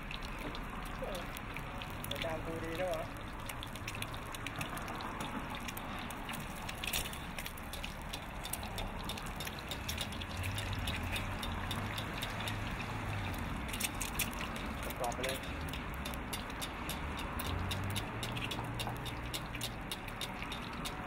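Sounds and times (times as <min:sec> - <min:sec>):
egg sizzling in hot oil: 0:00.0 - 0:21.0.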